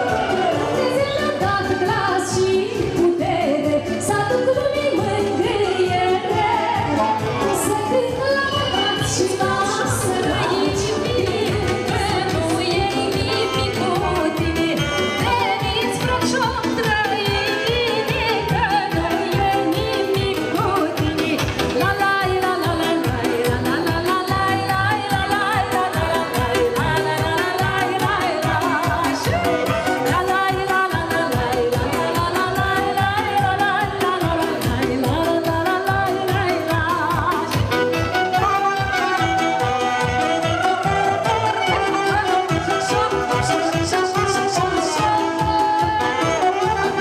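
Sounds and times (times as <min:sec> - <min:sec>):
keyboard: 0:00.0 - 0:47.0
person singing: 0:00.0 - 0:47.0.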